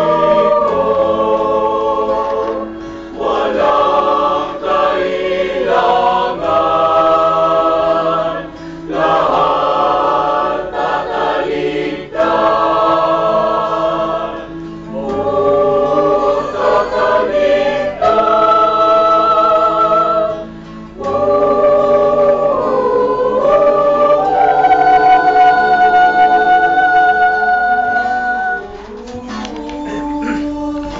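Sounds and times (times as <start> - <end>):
choir singing in harmony: 0.0 - 30.9.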